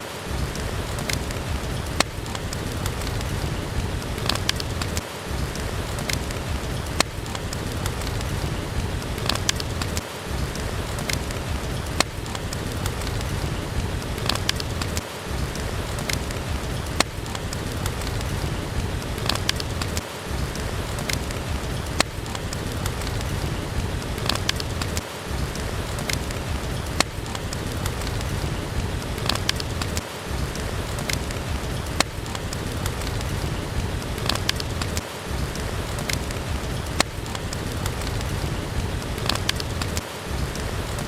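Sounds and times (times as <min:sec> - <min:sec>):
heavy rain hiss: 0:00.0 - 0:41.0
wood fire crackling: 0:00.0 - 0:41.0.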